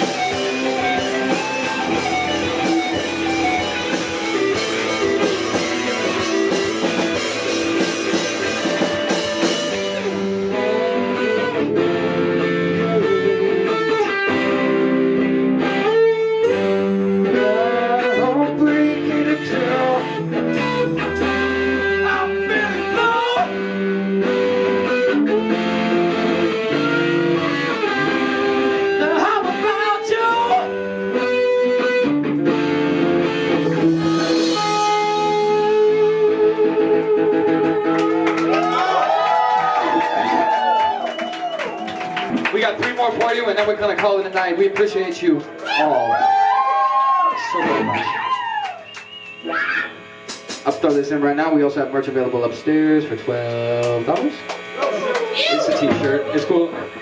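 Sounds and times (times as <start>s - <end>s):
drums: 0.0s - 51.2s
bass guitar: 0.0s - 57.0s
electric guitar bending notes: 0.0s - 57.0s.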